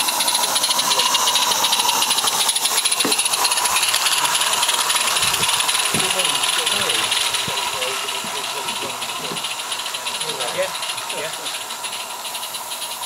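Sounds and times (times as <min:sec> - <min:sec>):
steam locomotive hissing and chuffing: 0:00.0 - 0:13.0.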